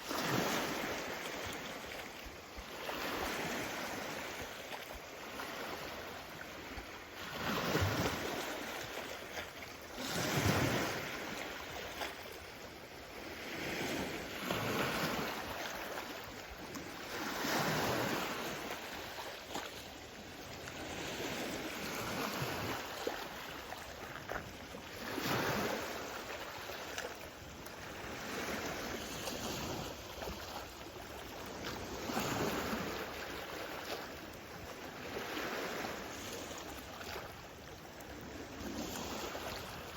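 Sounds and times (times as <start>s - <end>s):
small waves washing in: 0.0s - 39.9s.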